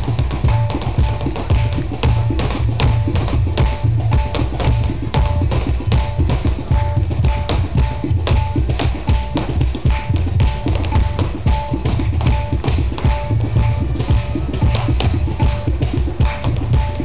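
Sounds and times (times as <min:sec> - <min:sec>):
cajon percussion: 0:00.0 - 0:17.0
heeled footwork on stage: 0:00.0 - 0:17.0.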